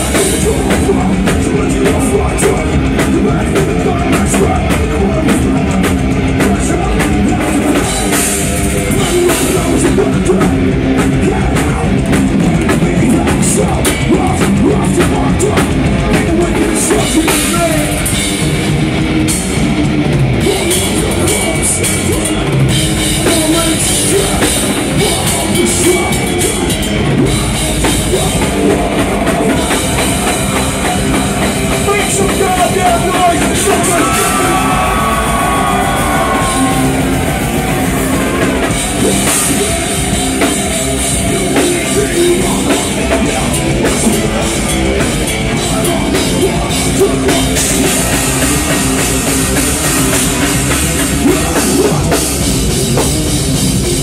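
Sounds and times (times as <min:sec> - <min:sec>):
distorted guitars: 0:00.0 - 0:54.0
heavy metal band playing live: 0:00.0 - 0:54.0
pounding drum kit: 0:00.0 - 0:54.0.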